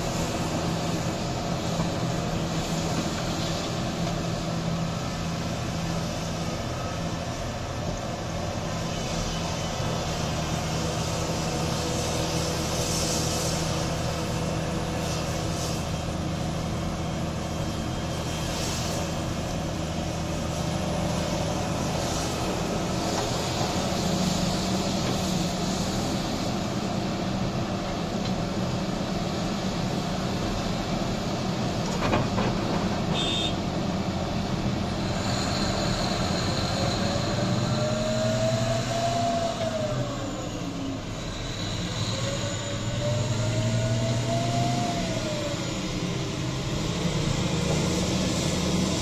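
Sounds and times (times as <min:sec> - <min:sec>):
diesel engines humming: 0:00.0 - 0:49.0.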